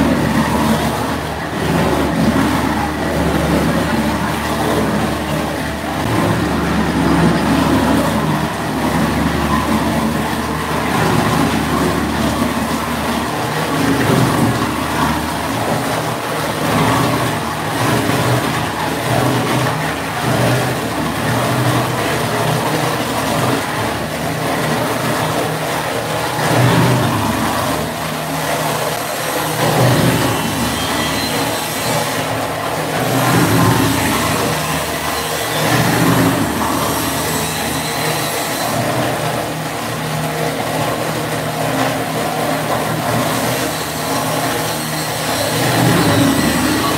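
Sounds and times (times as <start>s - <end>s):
meat-processing machinery running: 0.0s - 46.9s.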